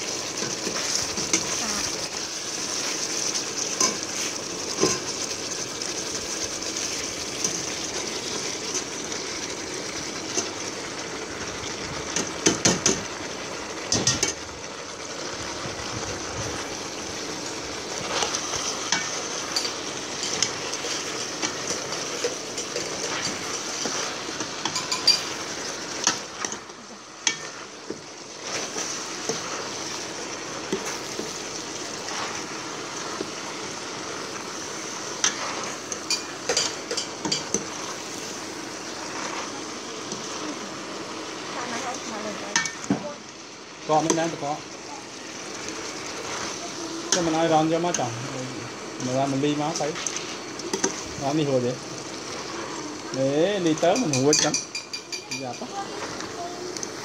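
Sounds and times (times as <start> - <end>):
stew sizzling in pot: 0.0 - 57.0.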